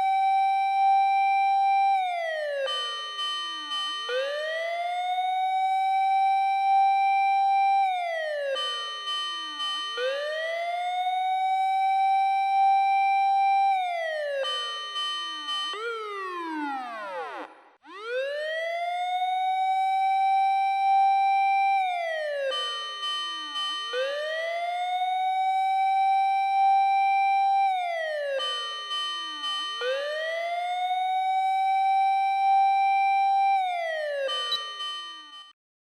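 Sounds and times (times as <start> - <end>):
fire engine siren wailing: 0.0 - 2.9, 4.1 - 8.8, 10.0 - 14.7, 15.7 - 34.8
steady high siren tone: 0.0 - 35.5.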